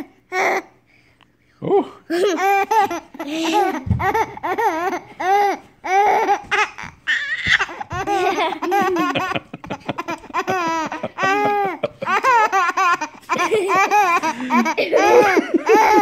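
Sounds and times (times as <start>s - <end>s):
baby laughing: 2.1s - 16.0s.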